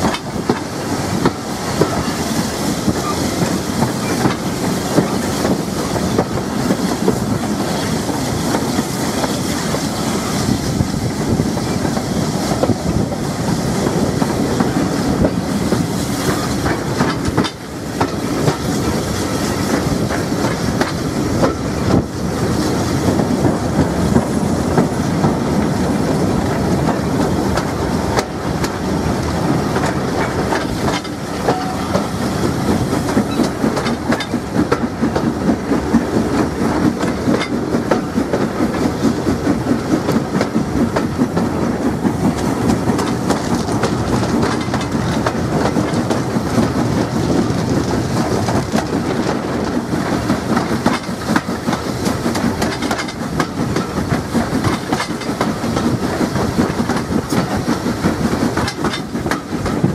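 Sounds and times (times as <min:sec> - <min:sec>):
wheels clattering over rail joints: 0:00.0 - 0:10.2, 0:11.0 - 0:22.1, 0:23.1 - 0:59.9
steam locomotive working: 0:00.0 - 0:59.9.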